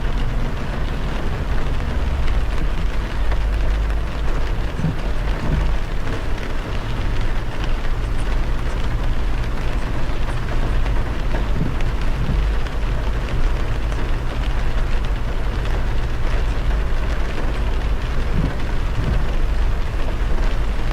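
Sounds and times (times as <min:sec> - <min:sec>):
heavy rain on a car: 0:00.0 - 0:20.9
tyres rumbling on wet road: 0:00.0 - 0:20.9.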